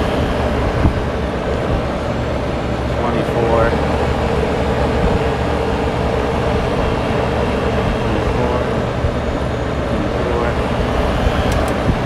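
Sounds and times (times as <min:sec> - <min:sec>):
blower fan running: 0:00.0 - 0:12.0.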